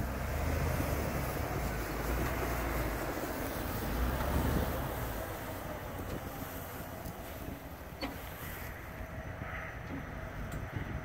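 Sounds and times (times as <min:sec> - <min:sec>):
diesel engine idling: 0:00.0 - 0:11.0
wind buffeting microphone: 0:00.0 - 0:11.0.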